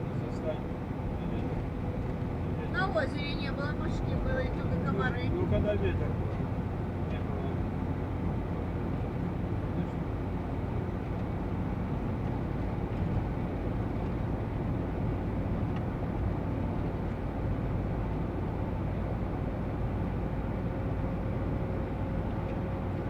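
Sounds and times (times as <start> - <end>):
van cabin road and engine noise: 0.0 - 23.0.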